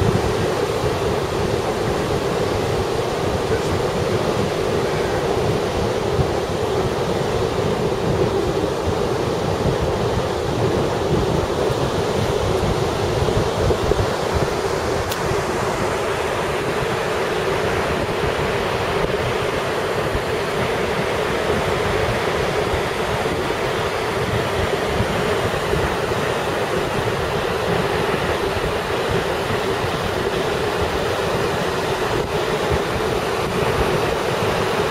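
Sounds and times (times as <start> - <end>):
surf breaking on beach: 0.0 - 34.9
wind buffeting microphone: 0.0 - 34.9.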